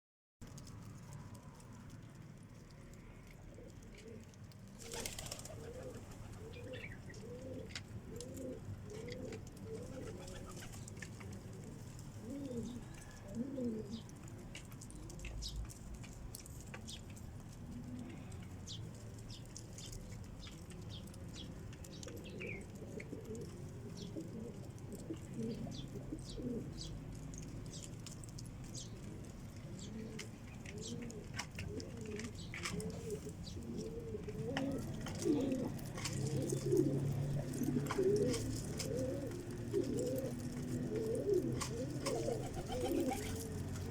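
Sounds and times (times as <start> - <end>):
light ticks and scratches: 0.4 - 43.9
pigeons cooing: 3.5 - 15.7, 17.6 - 43.9.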